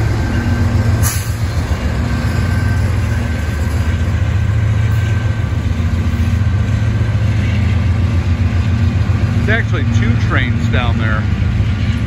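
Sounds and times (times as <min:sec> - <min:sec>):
diesel locomotives rumbling past: 0:00.0 - 0:12.0.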